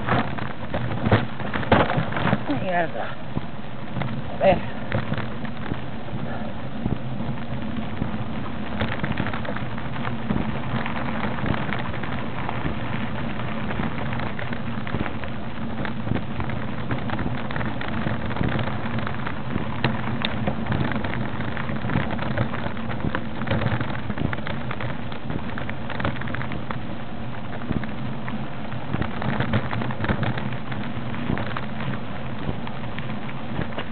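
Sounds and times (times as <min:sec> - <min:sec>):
crackling patter of clicks: 0:00.0 - 0:33.9
low engine drone: 0:00.0 - 0:33.9.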